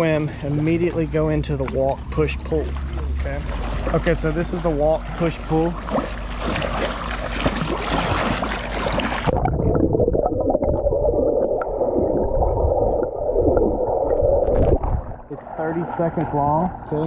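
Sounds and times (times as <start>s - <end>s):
water splashing and sloshing: 0.0s - 16.8s.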